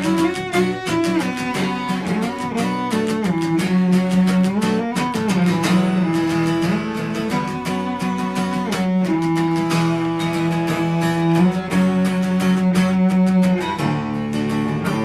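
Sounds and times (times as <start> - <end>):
acoustic guitar strumming: 0.0 - 15.0
cello long held notes: 0.0 - 15.0.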